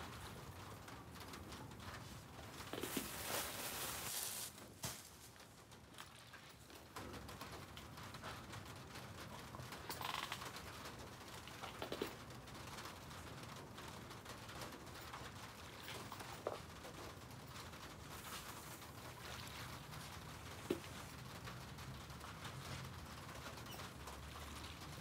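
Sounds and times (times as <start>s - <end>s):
charcoal crackling and ticking: 0.0s - 25.0s.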